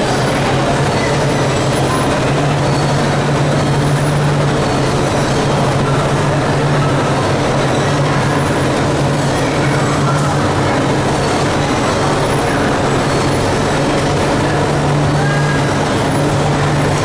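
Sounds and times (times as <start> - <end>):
conveyor machinery clattering: 0.0 - 17.0
low machine hum: 0.0 - 17.0.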